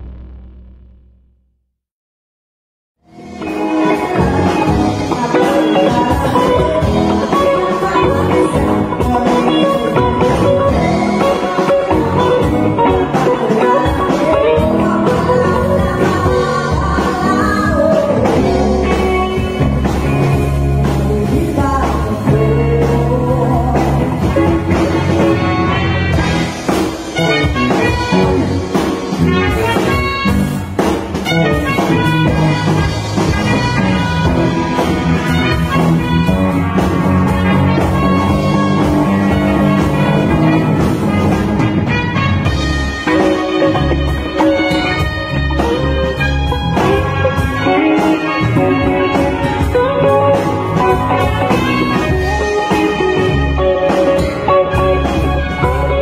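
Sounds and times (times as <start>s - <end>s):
electric guitar: 0.0s - 1.1s, 3.0s - 56.0s
drum kit beat: 3.1s - 56.0s
live band playing: 3.1s - 56.0s
melodic lead line: 3.1s - 56.0s.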